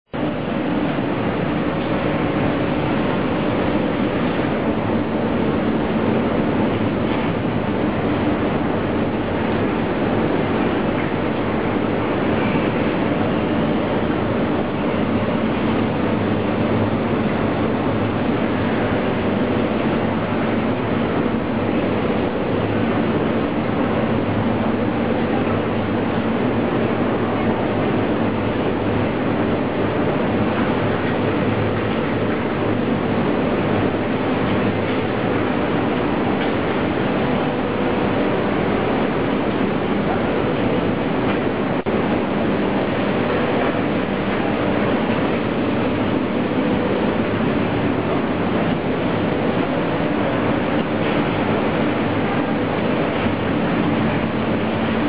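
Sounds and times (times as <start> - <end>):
furnace mechanical drone: 0.1 - 55.0
low electrical hum: 0.1 - 55.0.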